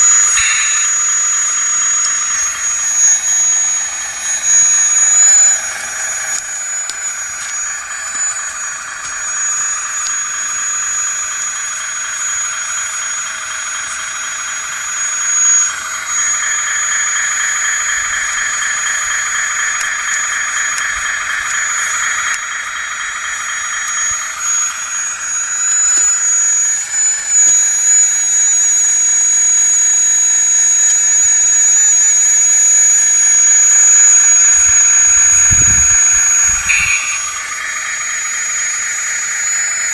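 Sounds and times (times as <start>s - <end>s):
electric hydraulic pump whining: 0.0s - 39.9s.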